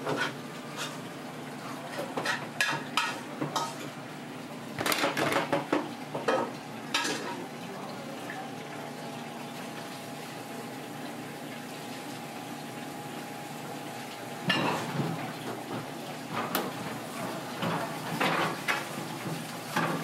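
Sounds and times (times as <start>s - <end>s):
kitchen background hum: 0.0s - 20.0s.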